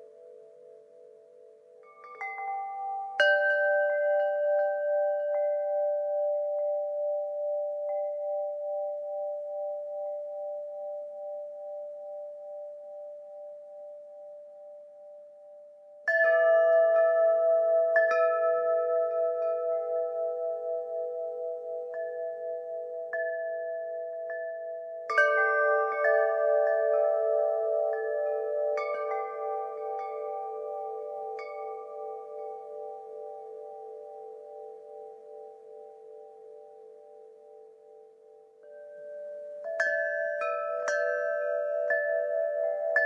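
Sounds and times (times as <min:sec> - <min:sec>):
wind chimes ringing: 0:00.0 - 0:43.0.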